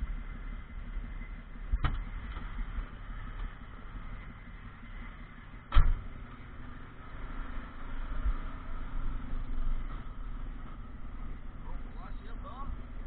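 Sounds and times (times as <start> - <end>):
truck diesel engine in cab: 0.0 - 13.0.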